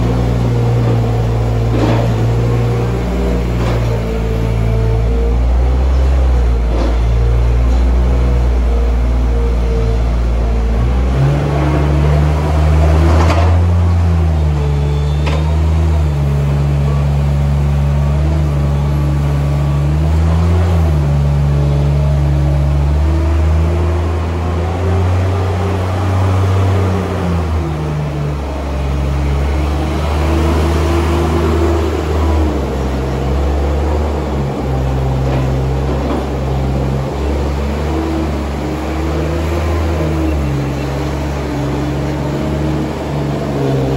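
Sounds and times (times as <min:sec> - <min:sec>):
loader engine running: 0:00.0 - 0:43.9.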